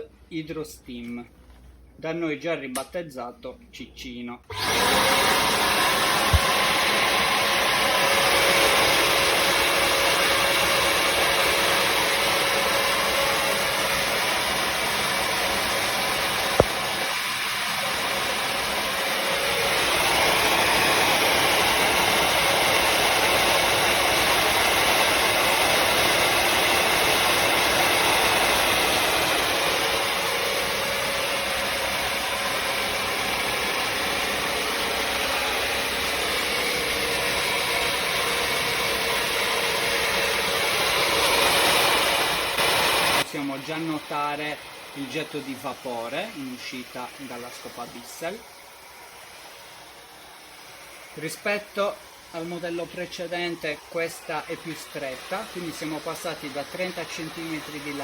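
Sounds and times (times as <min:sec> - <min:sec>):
floor cleaner motor running: 0:04.5 - 0:58.0.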